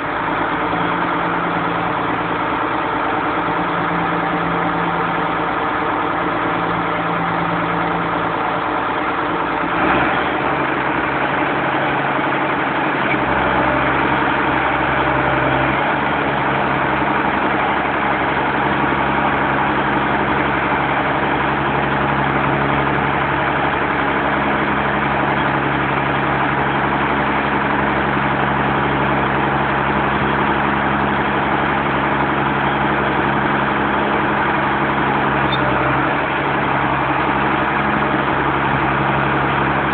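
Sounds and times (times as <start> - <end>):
harvester machinery running: 0.0 - 39.9.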